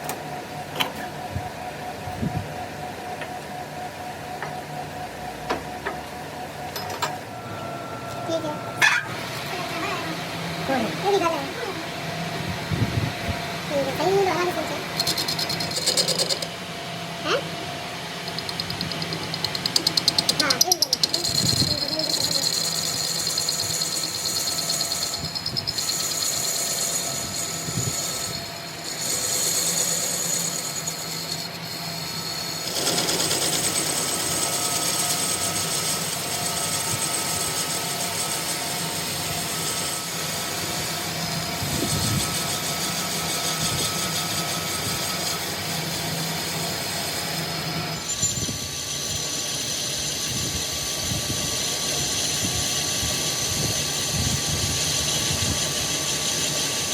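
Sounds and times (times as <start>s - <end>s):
mechanical running noise: 0.0s - 56.9s.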